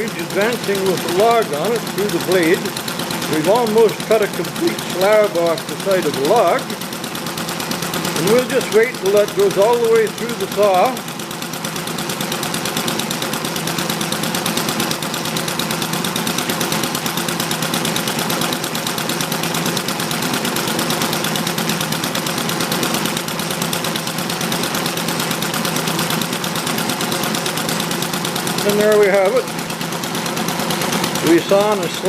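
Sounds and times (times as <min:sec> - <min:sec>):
small engine popping exhaust: 0:00.0 - 0:32.0.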